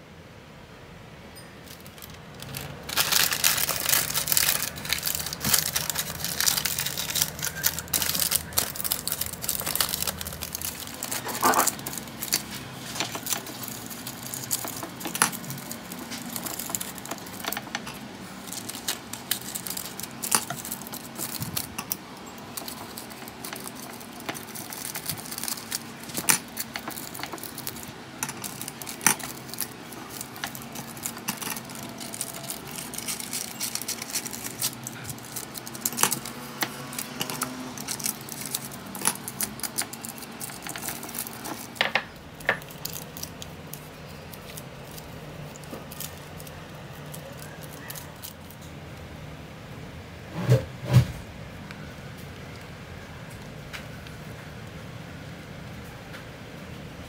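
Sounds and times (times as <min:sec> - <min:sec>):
crinkling and rustling: 0:01.6 - 0:56.8.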